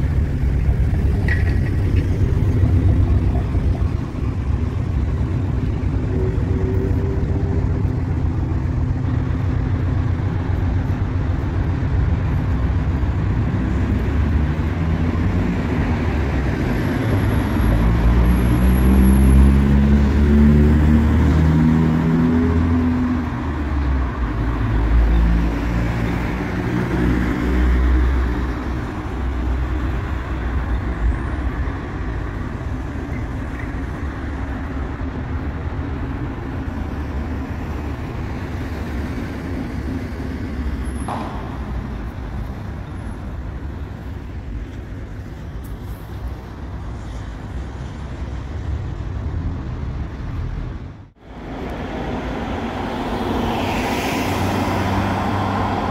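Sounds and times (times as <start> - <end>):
traffic engine rumble: 0.0 - 55.9.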